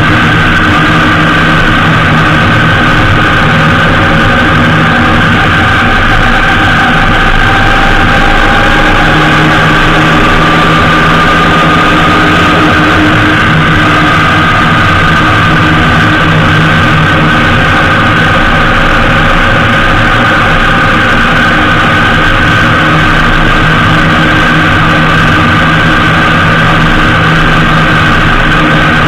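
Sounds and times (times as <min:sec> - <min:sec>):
motorcycle engine running evenly: 0:00.0 - 0:29.0
wind and road noise: 0:00.0 - 0:29.0.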